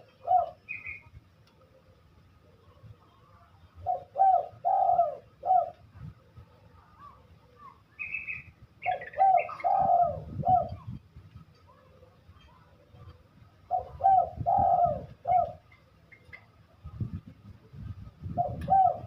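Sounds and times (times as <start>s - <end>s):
dove cooing: 0.0s - 11.0s, 11.7s - 16.5s, 18.3s - 19.0s.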